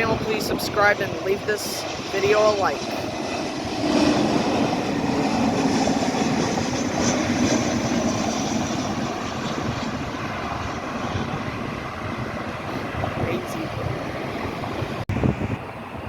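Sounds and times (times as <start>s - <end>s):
airliner jet engine passing: 0.0s - 16.0s.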